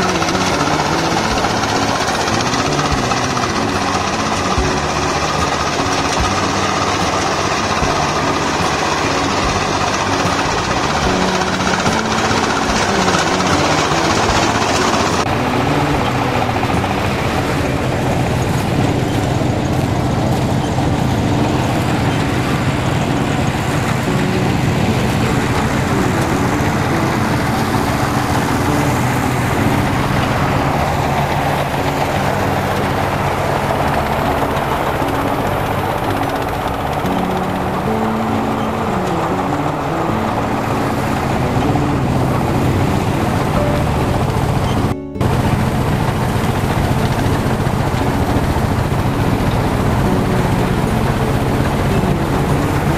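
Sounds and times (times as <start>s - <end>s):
combine harvester engine humming: 0.0s - 52.9s.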